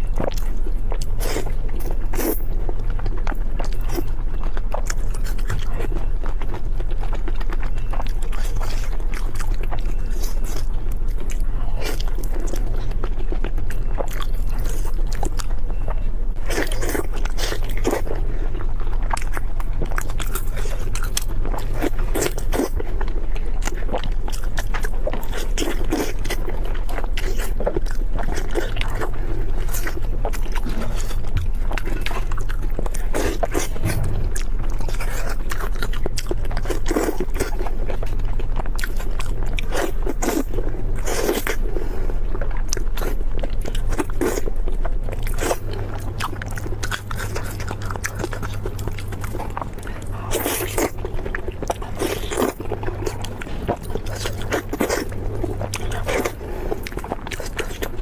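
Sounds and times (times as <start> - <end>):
chewing crispy food: 0.0 - 58.0
steady low hum: 0.0 - 58.0.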